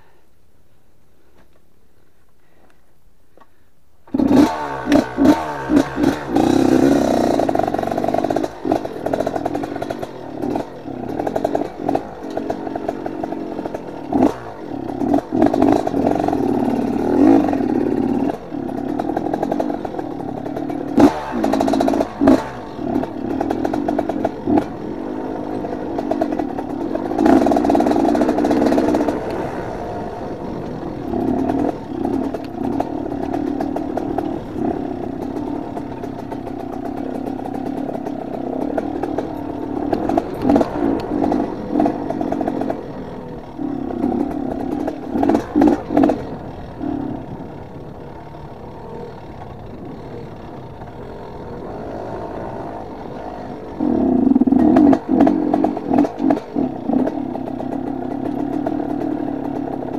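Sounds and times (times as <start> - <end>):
knocks and rattles from bike: 4.1 - 59.9
motorcycle engine revving: 4.1 - 59.9.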